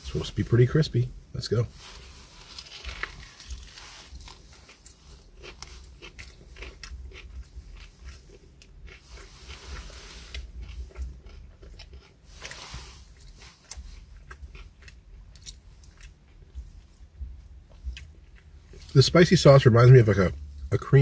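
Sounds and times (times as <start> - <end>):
chewing sandwich: 1.8 - 21.0
crispy chicken crunches: 1.8 - 21.0.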